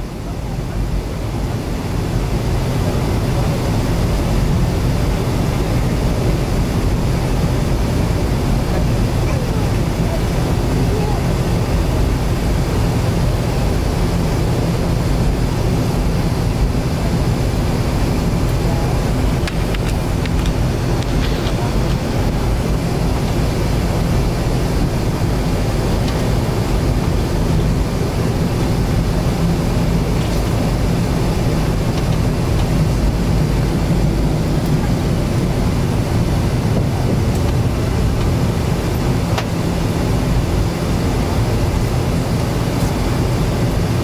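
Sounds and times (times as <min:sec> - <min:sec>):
jet engines humming: 0:00.0 - 0:44.0.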